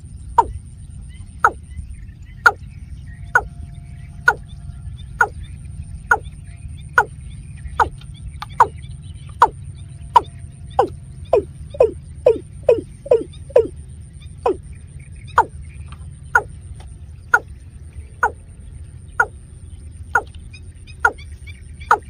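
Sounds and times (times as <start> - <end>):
bird calling with downward notes: 0.0 - 22.0.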